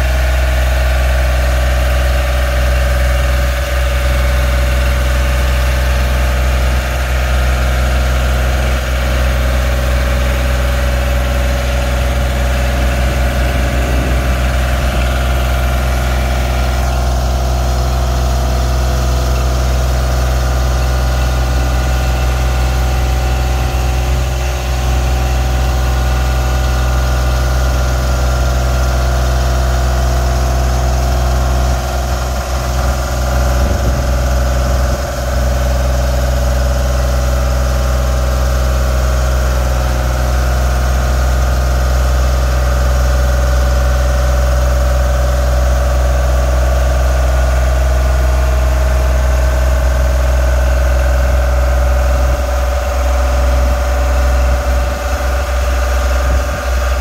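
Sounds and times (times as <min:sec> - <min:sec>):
boom lift engine running: 0:00.0 - 0:57.0.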